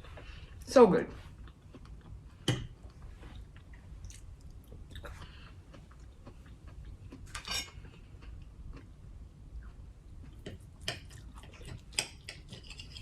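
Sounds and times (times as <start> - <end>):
person chewing: 1.3 - 13.0.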